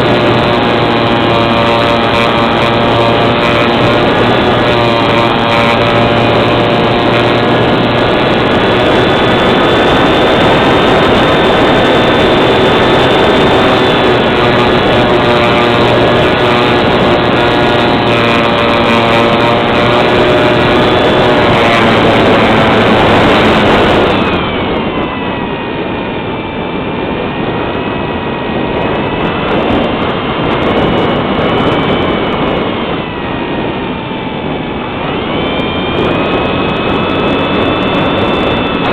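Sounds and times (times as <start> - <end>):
small engine whining at high speed: 0.0 - 38.9.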